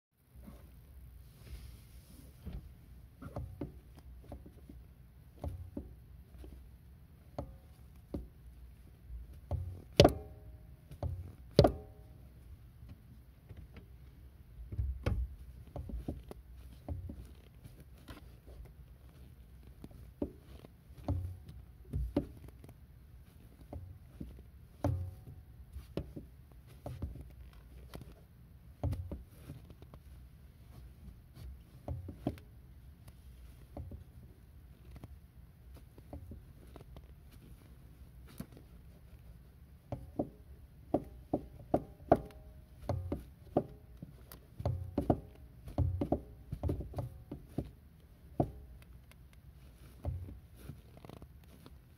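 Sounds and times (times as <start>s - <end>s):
car pedal knocks and clicks: 2.4s - 51.9s.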